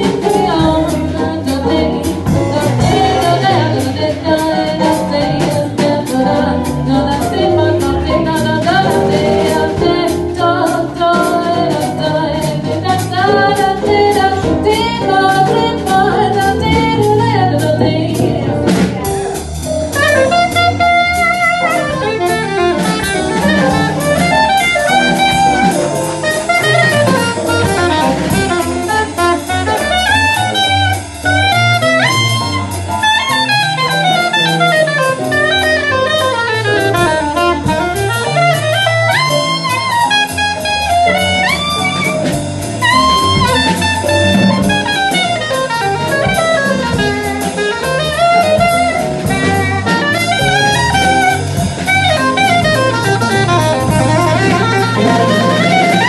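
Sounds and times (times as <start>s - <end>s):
drum kit: 0.0s - 56.0s
electric bass: 0.0s - 56.0s
soprano saxophone solo: 0.0s - 56.0s.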